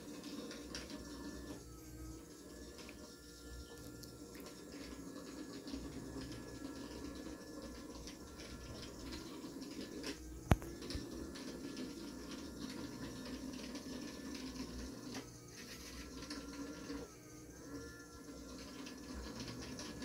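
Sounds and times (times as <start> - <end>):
robot vacuum motor hum: 0.0 - 20.0.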